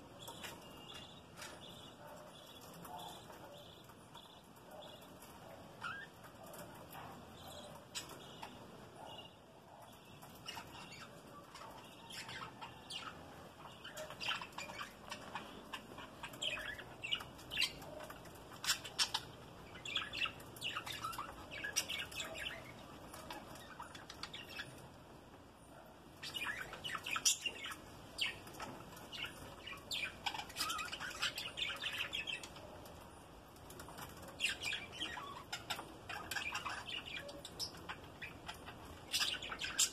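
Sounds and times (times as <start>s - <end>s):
budgerigars chirping and warbling: 0.1s - 25.1s, 26.0s - 33.0s, 33.6s - 39.9s.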